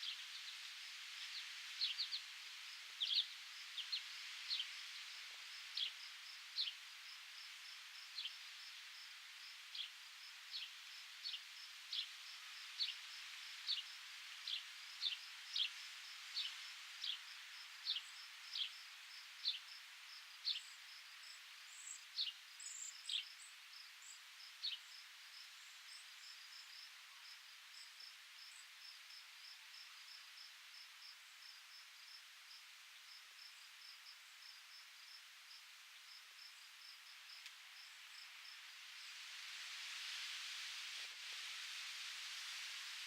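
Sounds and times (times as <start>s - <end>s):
insect chirping: 0.0s - 39.6s
breeze hiss: 0.0s - 43.0s.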